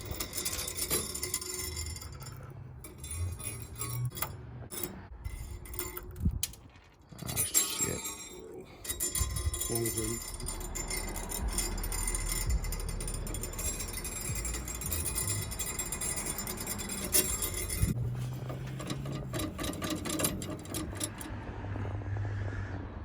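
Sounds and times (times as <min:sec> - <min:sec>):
metallic clicking of hand tools: 0:00.0 - 0:21.3.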